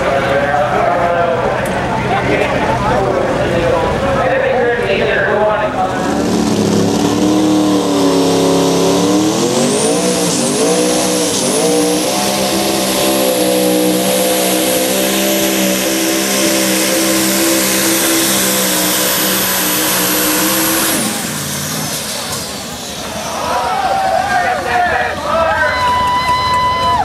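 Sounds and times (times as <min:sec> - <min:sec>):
tractor engine revving: 0:00.0 - 0:25.6.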